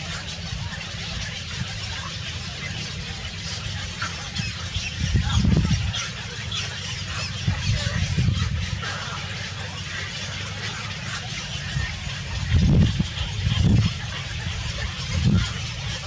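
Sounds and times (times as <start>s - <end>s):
birds chirping: 0.0s - 16.0s
low rumbles: 0.0s - 16.0s.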